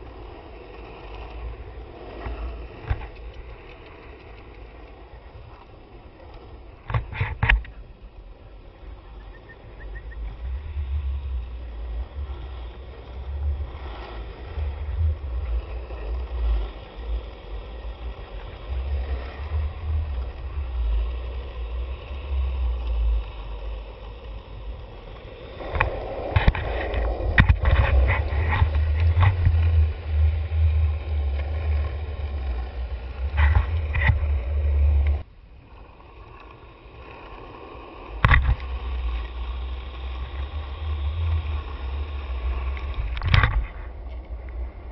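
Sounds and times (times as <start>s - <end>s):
skateboard clicks and knocks: 0.0s - 44.9s
skateboard wheels rolling on asphalt: 0.0s - 44.9s.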